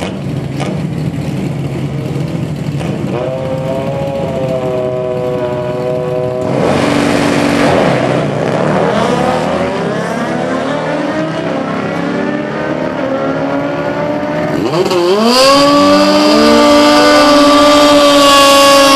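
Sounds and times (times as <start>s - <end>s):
motorcycle engines at full throttle: 0.0s - 18.9s.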